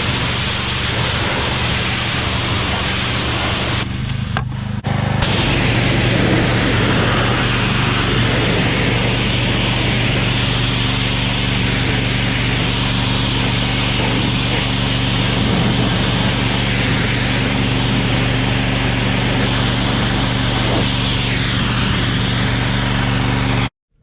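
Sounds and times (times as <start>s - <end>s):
water jet hissing: 0.0s - 3.9s, 4.9s - 23.7s
pressure washer engine hum: 0.0s - 23.7s.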